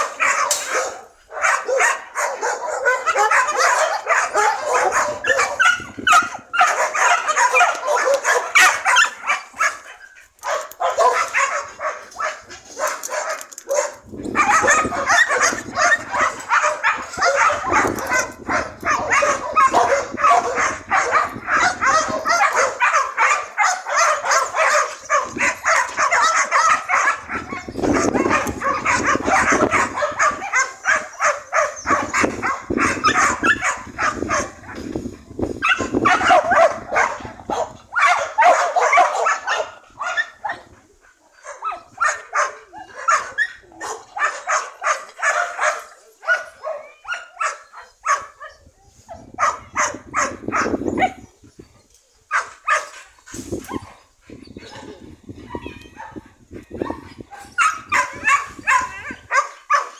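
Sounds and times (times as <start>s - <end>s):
dogs barking and yipping: 0.0s - 59.9s.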